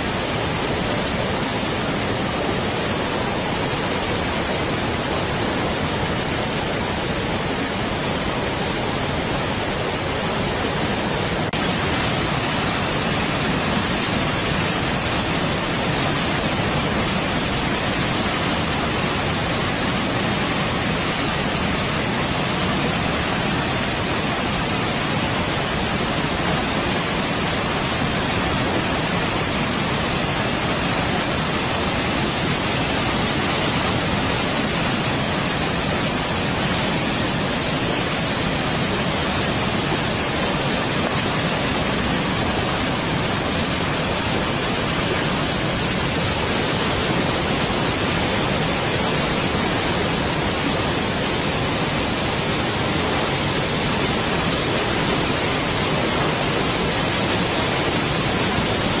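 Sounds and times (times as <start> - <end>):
waterfall rushing into river: 0.0 - 59.0.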